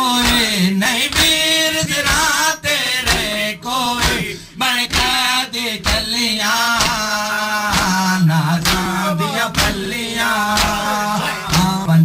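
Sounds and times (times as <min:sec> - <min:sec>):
men singing a lament: 0:00.0 - 0:12.0
hands slapping chests: 0:00.2 - 0:02.4, 0:03.0 - 0:11.8.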